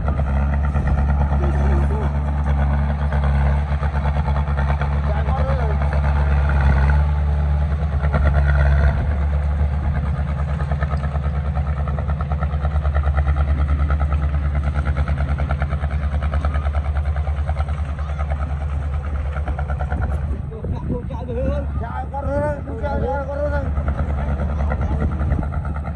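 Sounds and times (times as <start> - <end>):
heavy diesel engine throbbing: 0.0 - 25.9.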